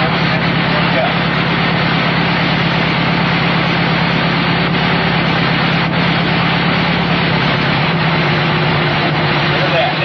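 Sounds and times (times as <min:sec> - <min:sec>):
dune buggy engine idling: 0:00.0 - 0:10.0.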